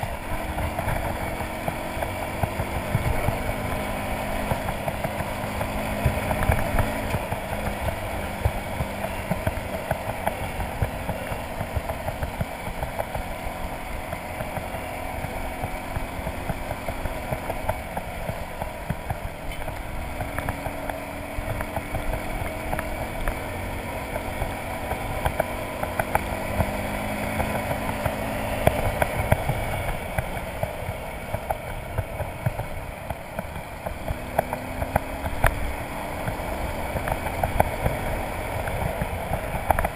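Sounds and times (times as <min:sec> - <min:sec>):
motorcycle engine running: 0:00.0 - 0:39.9
tyres on gravel road: 0:00.0 - 0:39.9.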